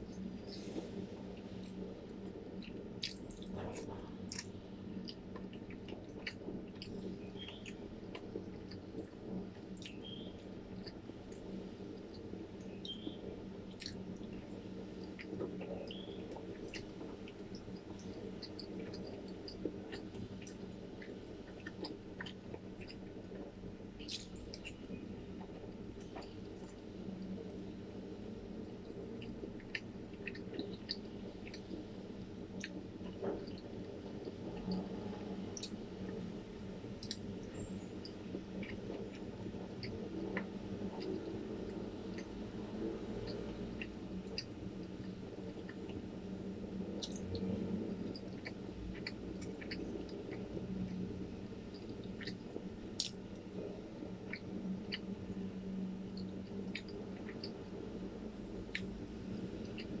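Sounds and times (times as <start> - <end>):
chewing and wet mouth sounds: 0.0 - 60.0.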